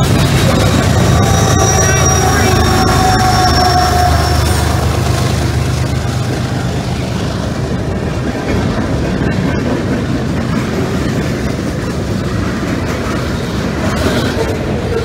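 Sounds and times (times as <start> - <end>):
diesel locomotive drone: 0.0 - 15.0
steel wheels on rails: 0.0 - 15.0.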